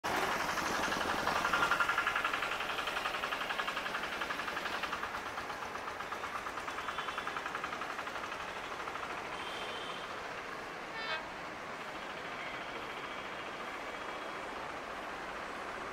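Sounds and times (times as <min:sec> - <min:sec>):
train locomotive engine running: 0:00.0 - 0:15.9.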